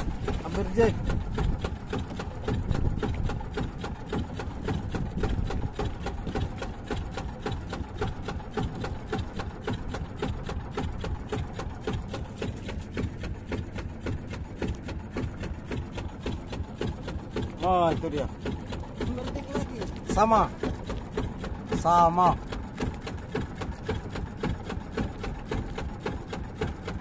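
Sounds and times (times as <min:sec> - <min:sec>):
boat engine chugging: 0:00.0 - 0:27.0.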